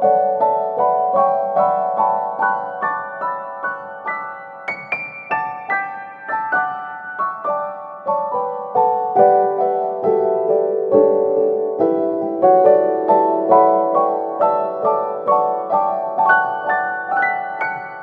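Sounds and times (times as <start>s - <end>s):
solo piano melody: 0.0s - 18.0s.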